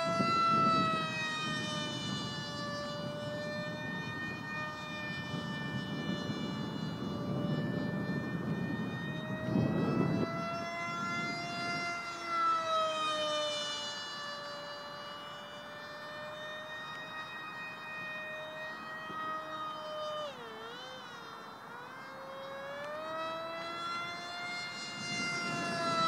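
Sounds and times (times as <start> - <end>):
model jet motor whine: 0.0 - 26.0.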